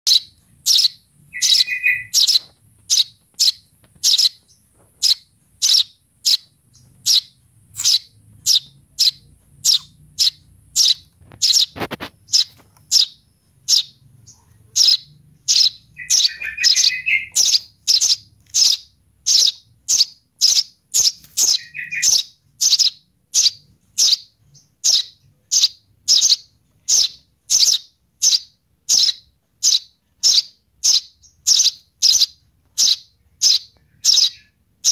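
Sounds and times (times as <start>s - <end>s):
sparrow chick chirping: 0.1s - 34.9s.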